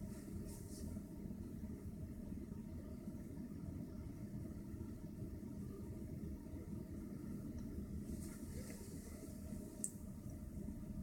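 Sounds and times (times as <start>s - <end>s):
low steady rumbling: 0.0s - 11.0s.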